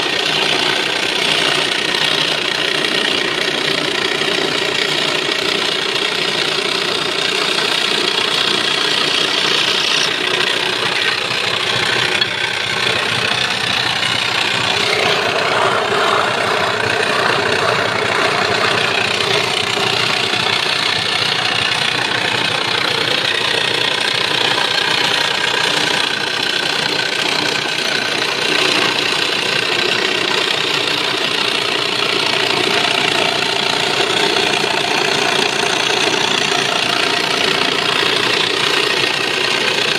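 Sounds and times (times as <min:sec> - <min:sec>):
electric jigsaw cutting wood: 0:00.0 - 0:39.9.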